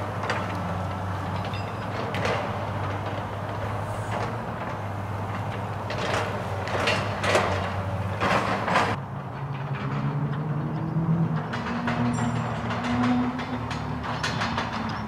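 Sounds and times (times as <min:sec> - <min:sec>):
excavator diesel engine humming: 0:00.0 - 0:15.0
harsh scraping and crashing: 0:00.0 - 0:15.0.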